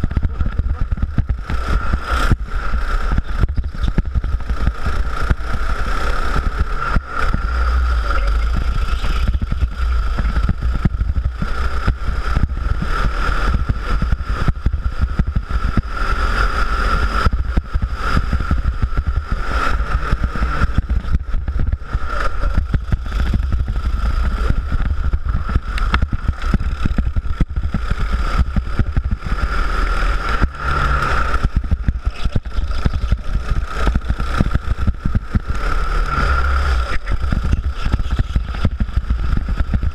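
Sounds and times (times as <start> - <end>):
go-kart engine running: 0.0 - 39.9
wind buffeting microphone: 0.0 - 39.9.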